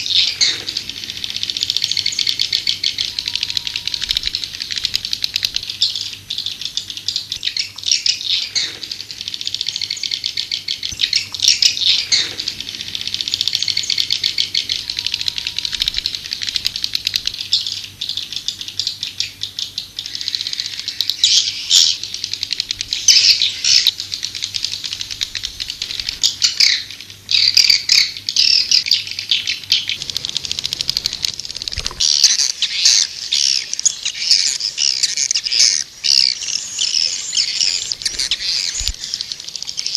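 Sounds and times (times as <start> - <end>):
swiftlets twittering: 0.0 - 8.5, 9.1 - 18.0, 20.1 - 39.9.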